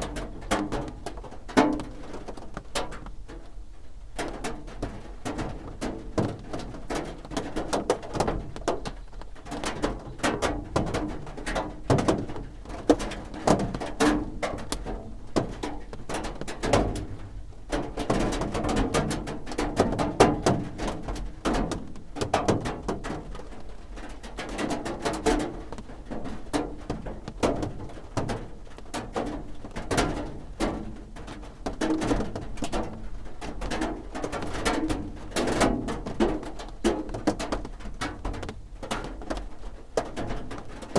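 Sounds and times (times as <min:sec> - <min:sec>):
rain drumming on a roof: 0:00.0 - 0:40.9.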